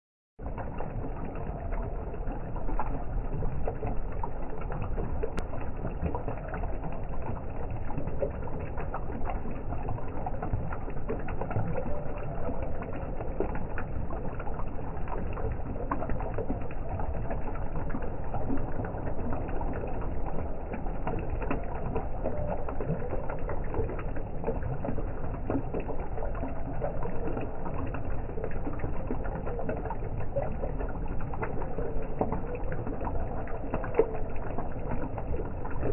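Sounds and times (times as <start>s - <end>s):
fountain water splashing: 0.4s - 35.9s
small water drips: 0.4s - 35.9s.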